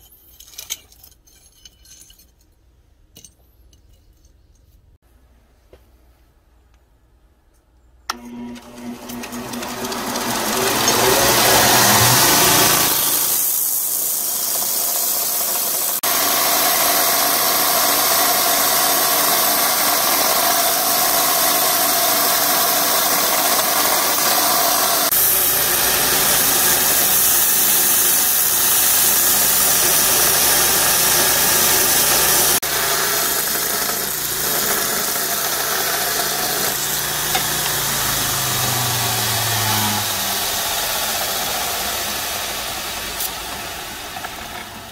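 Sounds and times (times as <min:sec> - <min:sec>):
belt grinder whining: 0:08.1 - 0:44.9
steel grinding on belt: 0:08.2 - 0:44.9.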